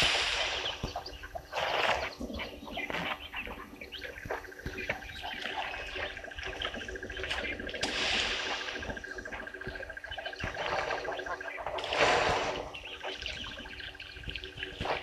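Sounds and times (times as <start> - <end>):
wild birds chirping: 0.0 - 15.0.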